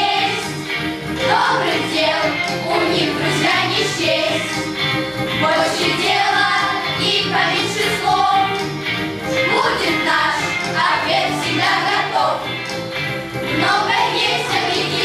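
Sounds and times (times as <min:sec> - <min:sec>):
children singing: 0:00.0 - 0:00.6, 0:01.2 - 0:08.6, 0:09.4 - 0:12.5, 0:13.5 - 0:15.0
musical accompaniment with beat: 0:00.0 - 0:15.0.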